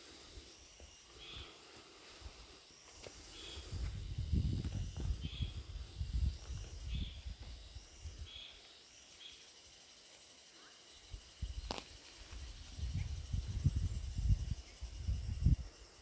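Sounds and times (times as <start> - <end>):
insect buzz: 0.0 - 16.0.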